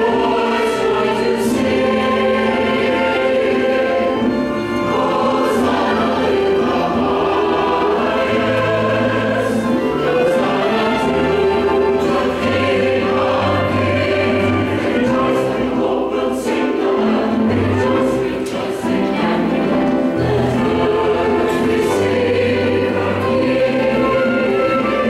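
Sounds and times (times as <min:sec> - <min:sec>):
choir singing: 0:00.0 - 0:25.0
piano: 0:00.0 - 0:25.0
violin: 0:00.0 - 0:25.0.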